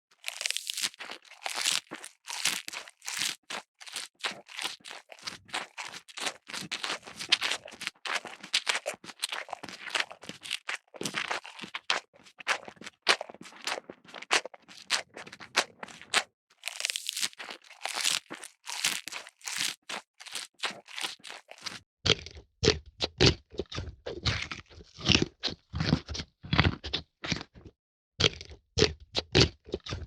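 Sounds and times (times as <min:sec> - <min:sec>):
crunching and crackling: 0:00.1 - 0:30.0.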